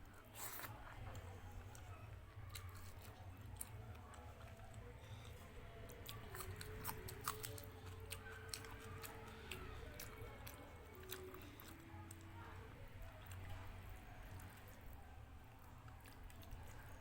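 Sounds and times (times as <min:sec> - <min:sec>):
close chewing and mouth sounds: 0:00.0 - 0:17.0.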